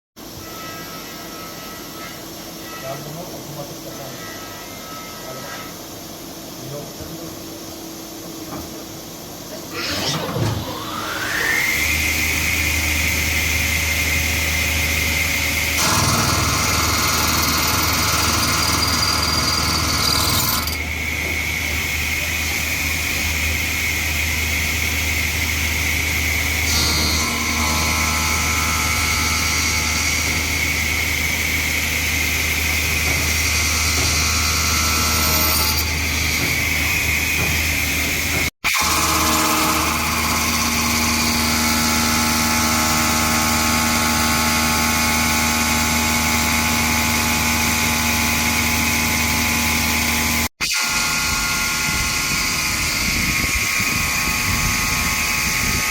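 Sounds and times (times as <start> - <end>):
router cutting noise: 9.7 - 55.9
router spindle whine: 9.7 - 55.9.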